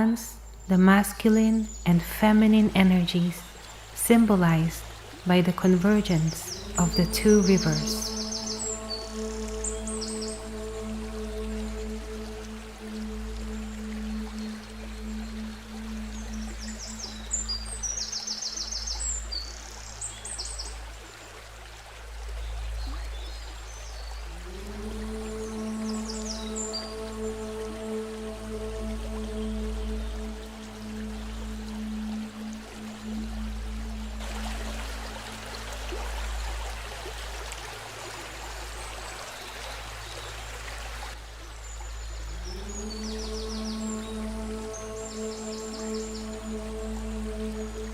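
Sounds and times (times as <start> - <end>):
birds chirping: 0.0 - 21.2, 22.3 - 36.9, 38.0 - 47.9
river water rushing: 3.0 - 47.9.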